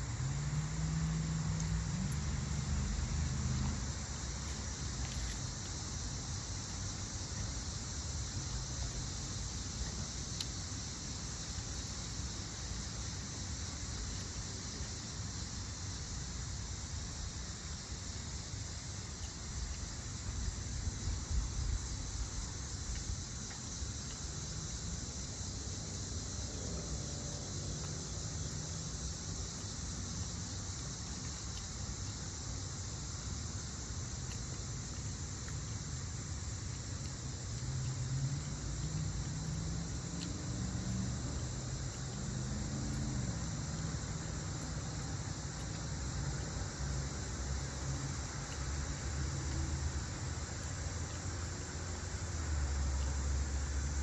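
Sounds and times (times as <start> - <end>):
faint low hum: 0.0 - 54.0
insect chorus: 0.0 - 54.0.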